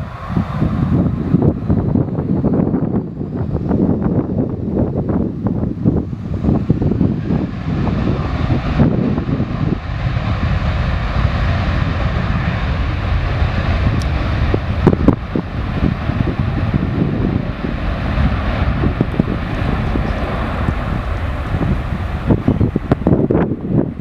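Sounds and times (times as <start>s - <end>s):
aircraft engine noise: 0.0s - 24.0s
wind buffeting microphone: 0.0s - 24.0s.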